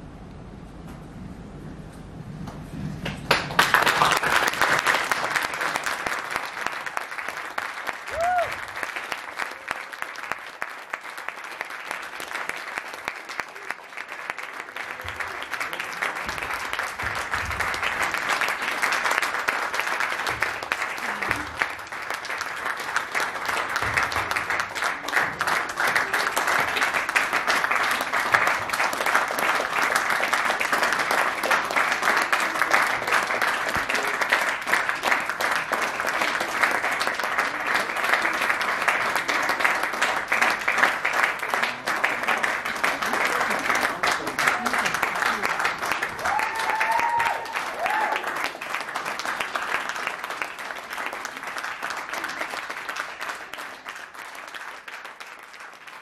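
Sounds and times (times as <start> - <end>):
audience applauding: 2.9 - 56.0.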